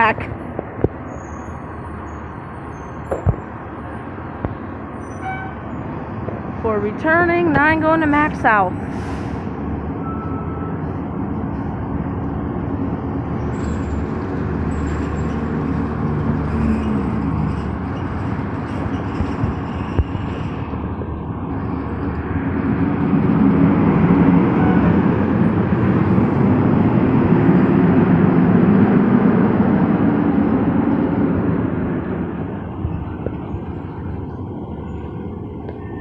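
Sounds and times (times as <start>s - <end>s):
fire engine driving away: 0.0s - 36.0s.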